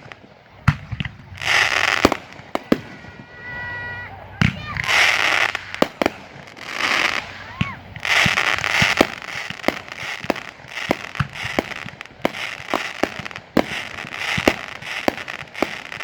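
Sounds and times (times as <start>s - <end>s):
fireworks crackling hiss: 0.0s - 16.0s
fireworks popping: 0.0s - 16.0s.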